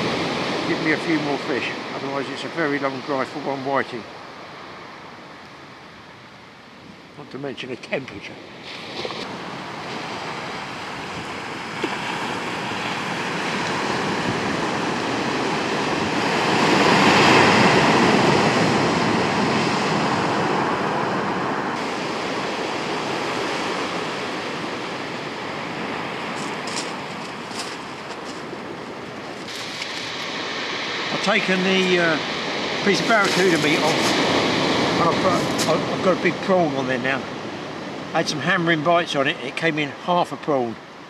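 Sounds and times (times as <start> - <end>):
waves breaking on shingle beach: 0.0 - 3.9, 8.4 - 40.6.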